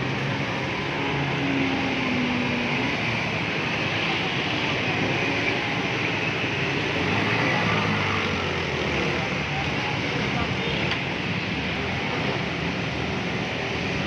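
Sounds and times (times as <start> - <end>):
motorcycle engines running: 0.0 - 14.0
street traffic noise: 0.0 - 14.0.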